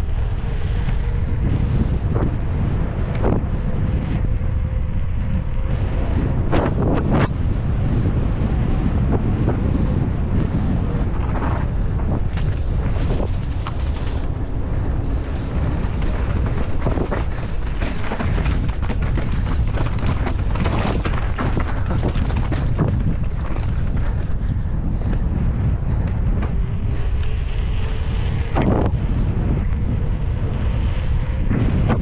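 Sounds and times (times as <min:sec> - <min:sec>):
bike rattling over rough ground: 0:00.0 - 0:32.0
wind buffeting microphone: 0:00.0 - 0:32.0.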